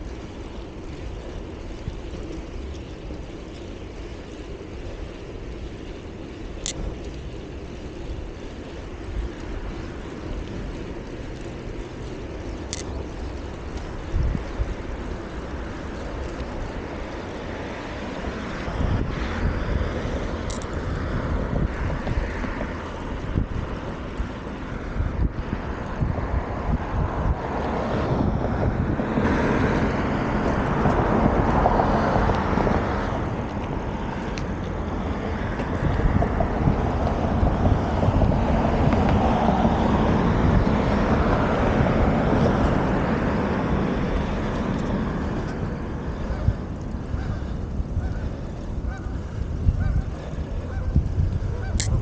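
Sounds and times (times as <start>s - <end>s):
bicycle rolling noise: 0.0s - 52.0s
wind buffeting microphone: 0.0s - 52.0s.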